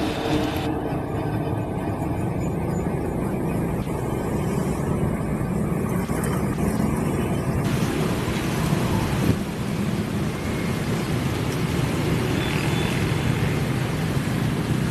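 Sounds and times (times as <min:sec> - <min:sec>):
diesel locomotive engine rumbling: 0:00.0 - 0:12.5.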